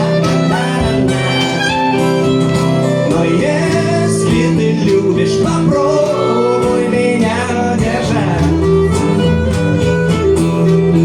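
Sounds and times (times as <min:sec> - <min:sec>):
live band playing: 0:00.0 - 0:11.0
person singing: 0:00.0 - 0:11.0.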